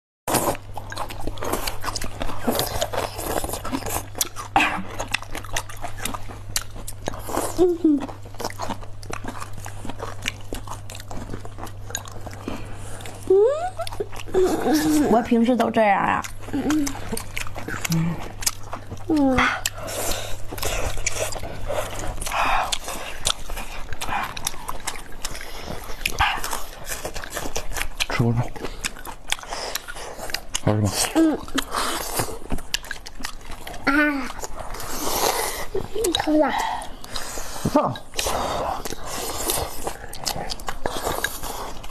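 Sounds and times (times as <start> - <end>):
chewing and biting: 0.3 - 41.9.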